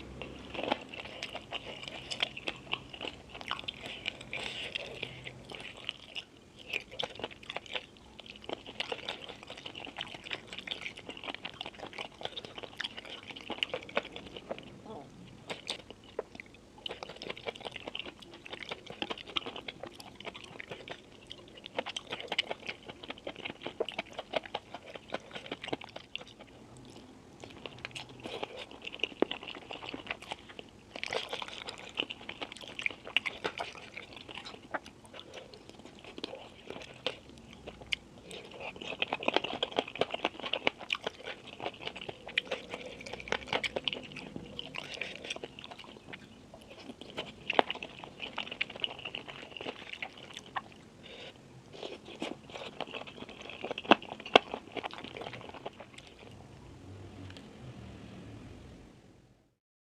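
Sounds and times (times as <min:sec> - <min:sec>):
person chewing food: 0:00.0 - 0:56.5.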